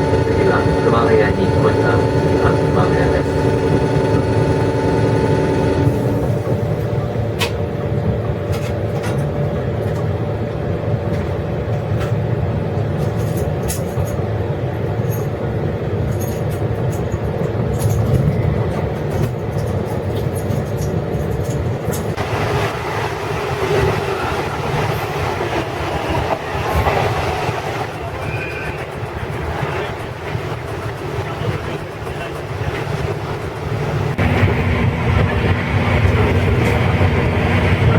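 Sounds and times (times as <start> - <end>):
train coach rumbling on rails: 0.0 - 37.9.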